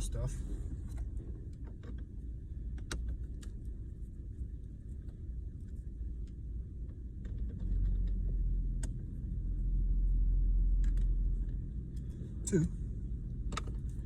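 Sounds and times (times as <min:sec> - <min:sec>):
low handling rumble: 0:00.0 - 0:14.0.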